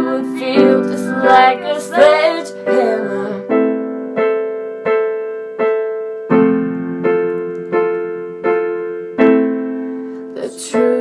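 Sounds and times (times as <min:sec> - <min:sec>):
keyboard piano chords: 0:00.0 - 0:11.0.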